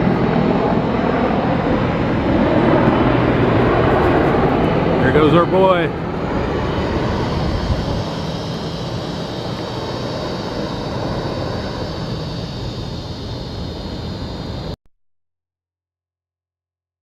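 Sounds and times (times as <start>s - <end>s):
helicopter engine and rotor: 0.0s - 14.8s.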